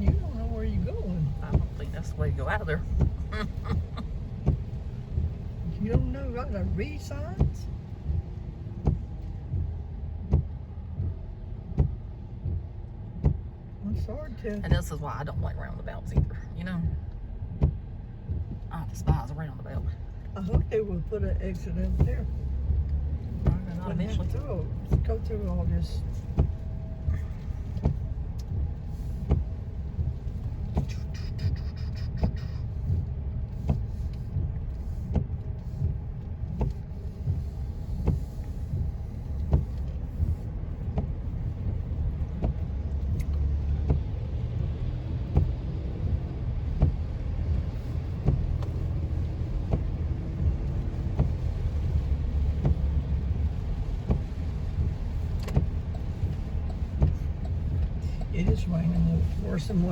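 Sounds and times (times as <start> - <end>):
road rumble in car cabin: 0.0 - 59.9.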